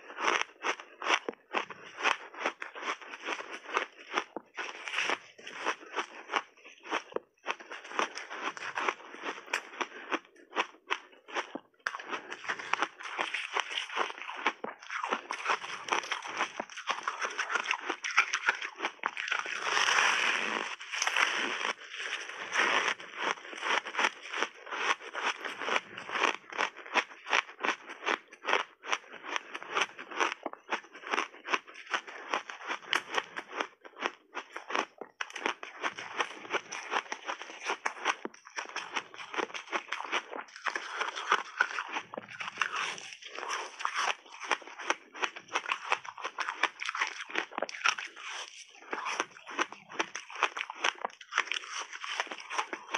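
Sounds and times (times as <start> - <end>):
crunching ice while chewing: 0.0 - 52.9.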